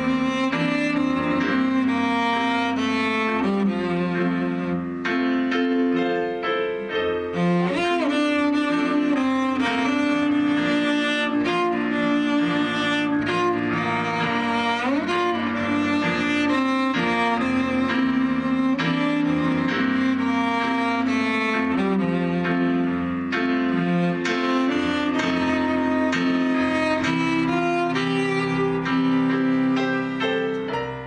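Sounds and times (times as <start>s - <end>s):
cello bowed notes: 0.0s - 31.0s
piano chords: 0.0s - 31.0s.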